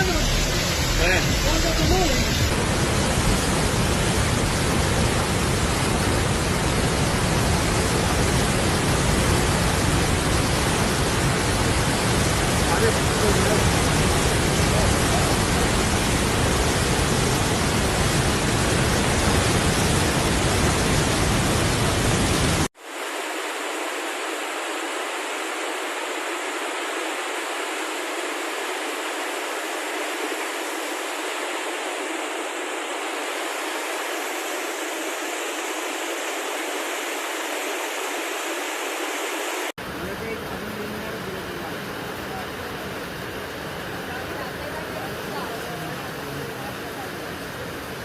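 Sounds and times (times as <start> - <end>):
floodwater rushing: 0.0 - 48.0
thinner water rush: 0.0 - 48.0.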